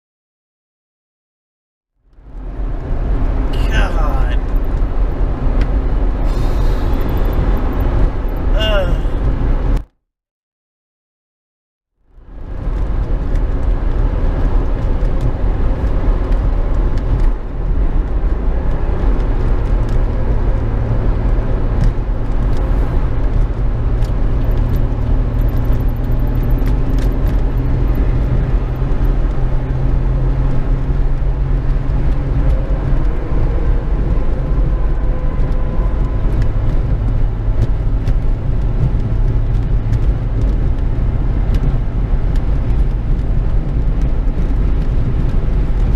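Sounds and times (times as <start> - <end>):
road noise: 2.0 - 9.9, 12.0 - 45.9
vehicle engine rumble: 2.0 - 9.9, 12.0 - 45.9.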